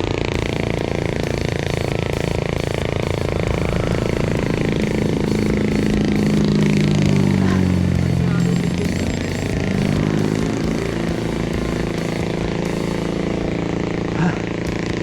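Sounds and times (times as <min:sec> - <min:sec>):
road and wind noise: 0:00.0 - 0:15.0
vehicle engine running: 0:00.0 - 0:15.0.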